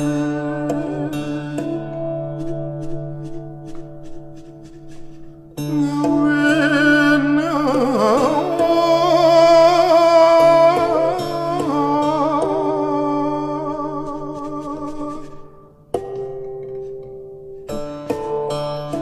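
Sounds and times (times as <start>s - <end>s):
vocal melody with vibrato: 0.0s - 16.8s.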